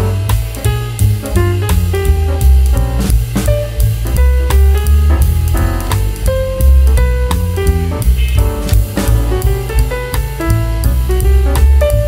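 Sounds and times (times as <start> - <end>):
background music with drums and bass: 0.0 - 12.0.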